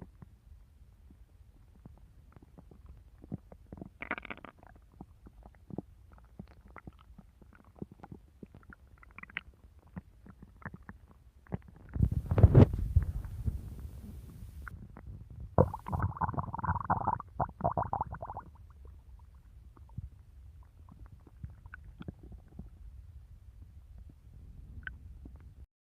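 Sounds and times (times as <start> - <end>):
low stomach rumble: 1.0 - 25.6
stomach gurgling: 1.6 - 25.6.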